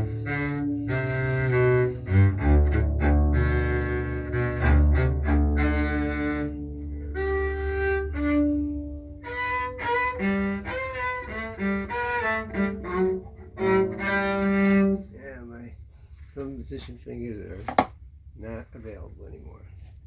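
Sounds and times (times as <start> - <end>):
bowed double bass: 0.0 - 16.6, 17.4 - 18.4.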